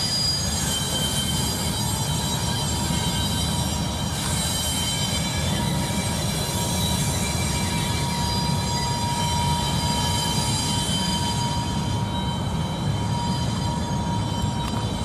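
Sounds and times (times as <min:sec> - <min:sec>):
freight train cars rumbling: 0:00.0 - 0:15.0
high wheel squeal: 0:00.0 - 0:15.0.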